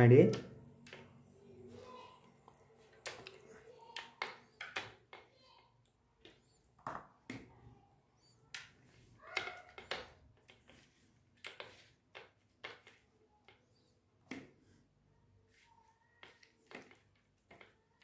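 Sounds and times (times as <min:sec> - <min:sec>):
fingers squishing paste: 0:00.3 - 0:07.6, 0:08.3 - 0:18.0.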